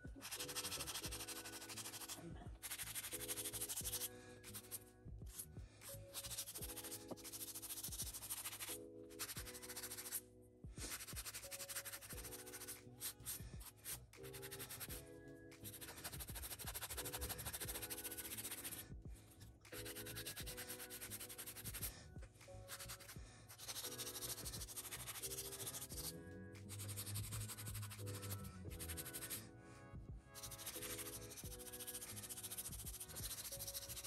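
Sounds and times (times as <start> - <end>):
background music: 0.0 - 34.0
nails being filed: 0.2 - 10.2, 10.8 - 29.5, 30.3 - 34.0.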